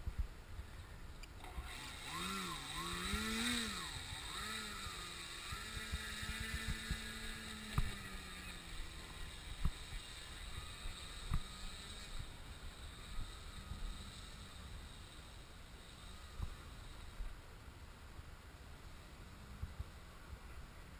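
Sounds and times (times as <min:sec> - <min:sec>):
model airplane motor droning: 0:00.1 - 0:17.7.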